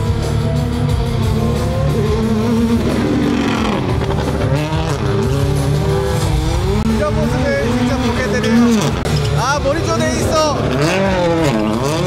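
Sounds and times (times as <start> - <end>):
loud music: 0.0 - 12.0
race car engine revving: 0.0 - 12.0.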